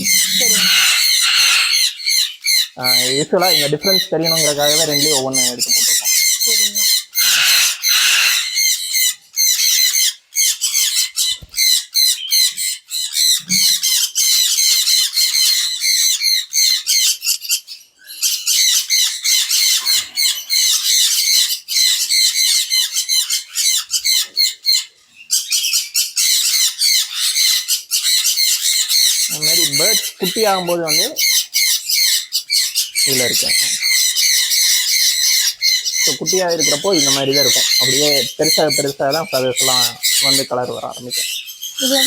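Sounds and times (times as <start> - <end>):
parrots squawking and chattering: 0.0 - 42.0.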